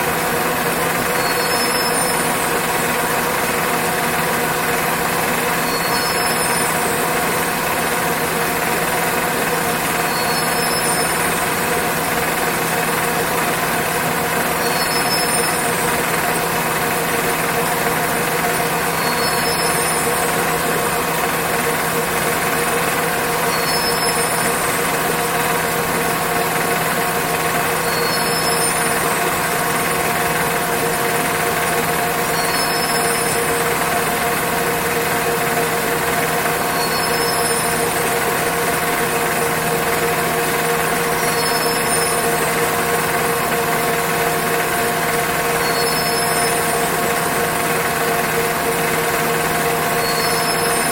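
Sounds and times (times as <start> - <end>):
warping machine droning: 0.0 - 50.9.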